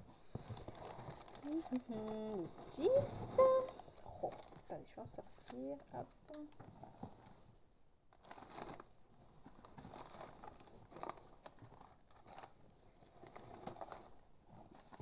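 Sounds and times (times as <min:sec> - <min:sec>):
packing peanuts shifting: 0:00.0 - 0:07.4, 0:08.1 - 0:15.0
paper parcels rustling and crinkling: 0:00.0 - 0:15.0.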